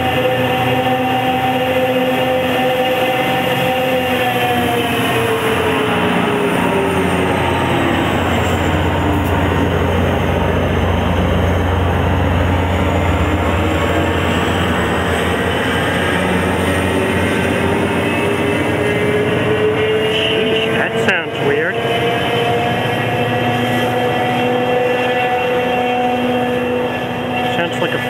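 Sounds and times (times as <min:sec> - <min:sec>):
diesel locomotive engine whine: 0:00.0 - 0:28.0
locomotive engine low rumble: 0:00.0 - 0:28.0.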